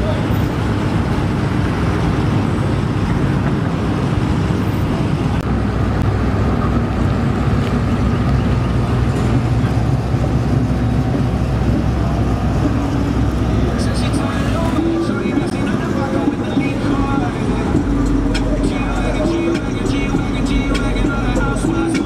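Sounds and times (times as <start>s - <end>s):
deep vehicle engine running: 0.0s - 22.0s.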